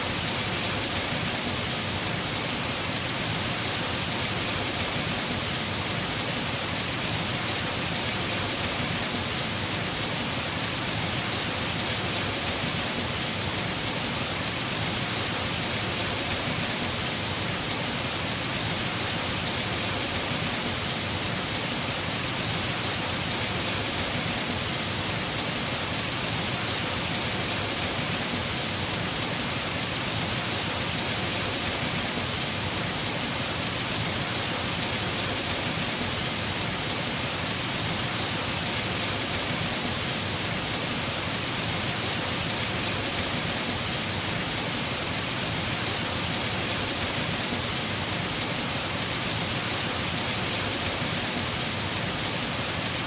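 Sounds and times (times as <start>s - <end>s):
heavy rain on a roof: 0.0s - 53.0s.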